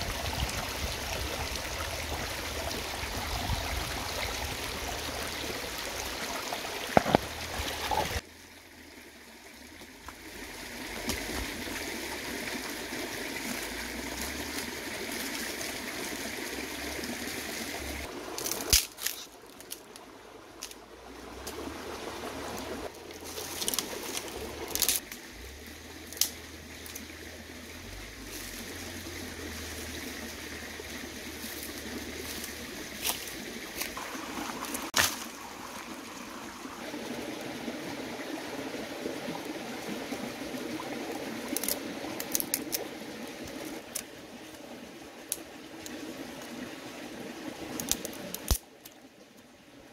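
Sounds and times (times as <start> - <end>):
stream trickling: 0.0 - 49.9.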